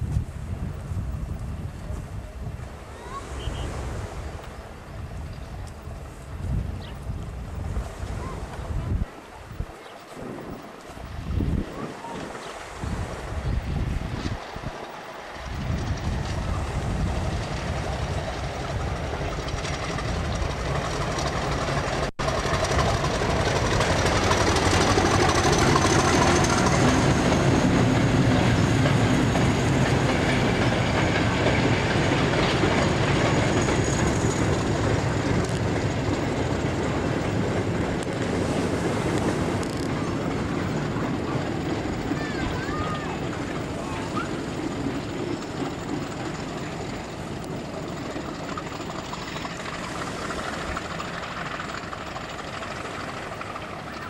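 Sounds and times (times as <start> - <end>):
diesel locomotive engine: 0.0 - 54.0
wagons rolling on rails: 5.1 - 54.0.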